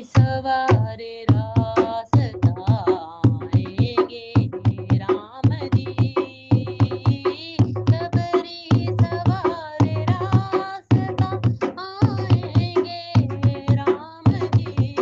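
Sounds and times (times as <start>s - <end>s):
person singing: 0.0s - 15.0s
tabla and drum beat: 0.0s - 15.0s.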